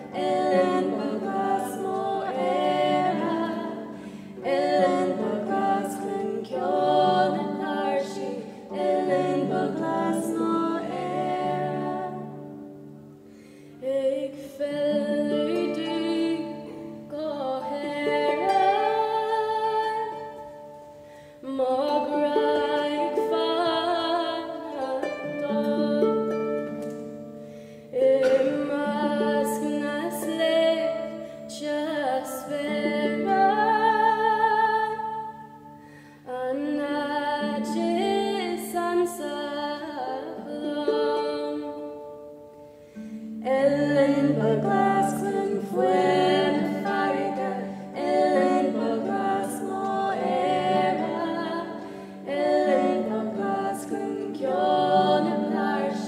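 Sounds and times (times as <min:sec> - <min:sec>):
plucked strings: 0:00.0 - 0:13.6, 0:14.3 - 0:35.9, 0:36.6 - 0:56.0
person singing: 0:00.0 - 0:27.2, 0:27.8 - 0:56.0.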